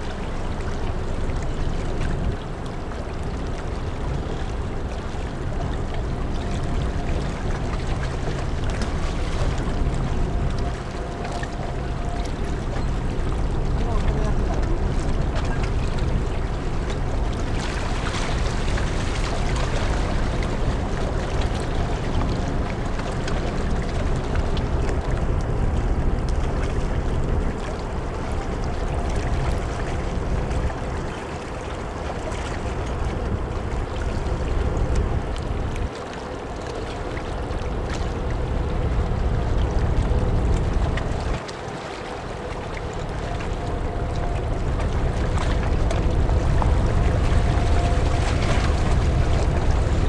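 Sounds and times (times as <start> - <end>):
faint ship engine hum: 0.0 - 50.0
wind buffeting microphone: 0.0 - 50.0.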